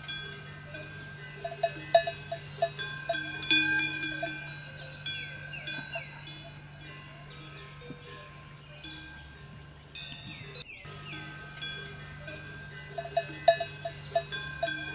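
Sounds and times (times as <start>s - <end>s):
bird calls: 0.0s - 14.9s
metal bells clanking: 0.0s - 14.9s.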